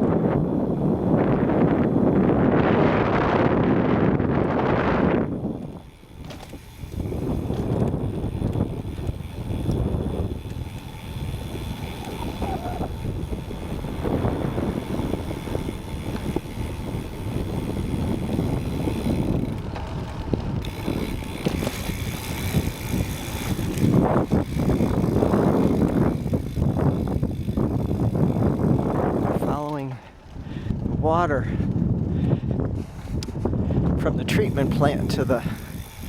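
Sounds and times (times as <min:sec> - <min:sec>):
bicycle tyres rolling on trail: 0:00.0 - 0:36.0
wind rumbling on microphone: 0:00.0 - 0:36.0.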